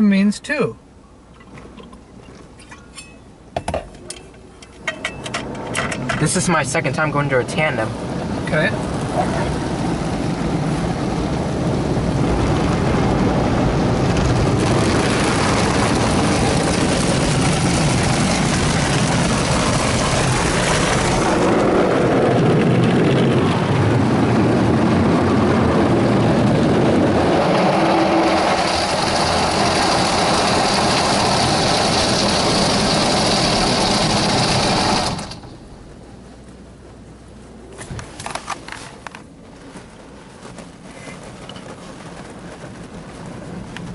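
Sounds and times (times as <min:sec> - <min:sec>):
car wash water spraying on car: 0:06.2 - 0:37.7, 0:38.8 - 0:43.9.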